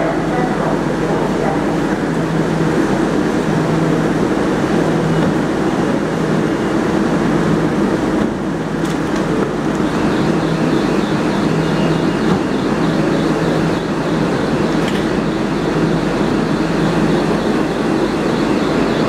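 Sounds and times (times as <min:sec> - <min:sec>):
train equipment humming and hissing: 0:00.0 - 0:19.0.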